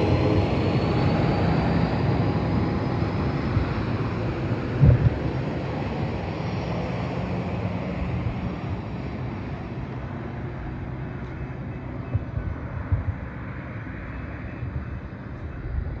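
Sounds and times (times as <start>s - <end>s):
diesel train rumbling: 0.0s - 16.0s
wind buffeting microphone: 0.0s - 16.0s.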